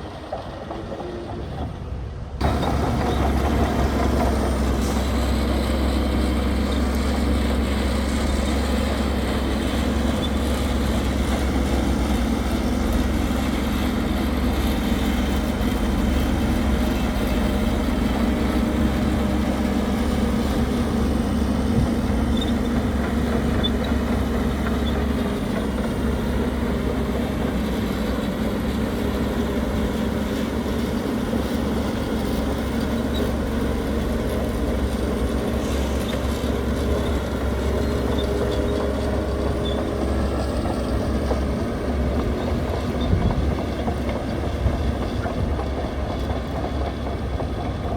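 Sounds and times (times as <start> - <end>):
diesel machinery running: 0.0 - 47.9.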